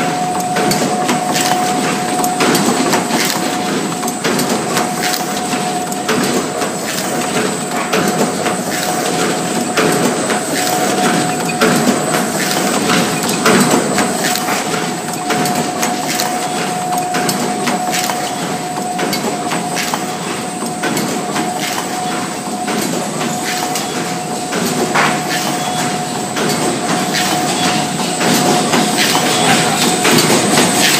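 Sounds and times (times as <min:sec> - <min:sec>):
machine clattering clicks and knocks: 0:00.0 - 0:30.9
machine whine: 0:00.0 - 0:30.9.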